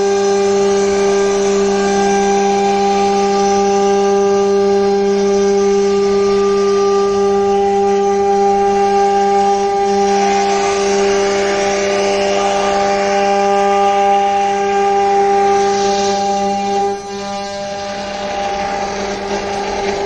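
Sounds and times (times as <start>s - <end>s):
hiss of cutting wood: 0.0s - 20.0s
router spindle whining: 0.0s - 20.0s.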